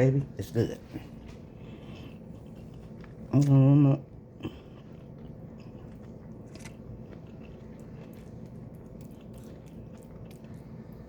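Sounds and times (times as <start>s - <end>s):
person chewing food: 1.0s - 11.0s.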